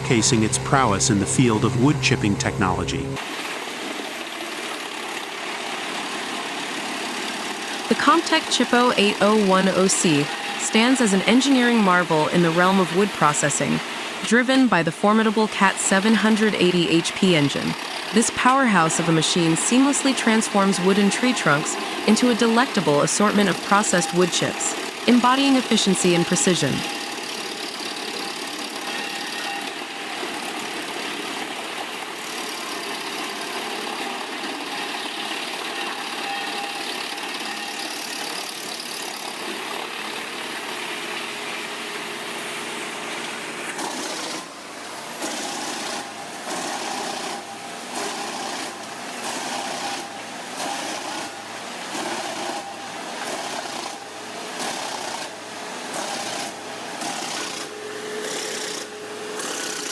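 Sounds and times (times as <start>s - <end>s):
wood chipper running: 0.0s - 14.3s, 15.1s - 59.9s.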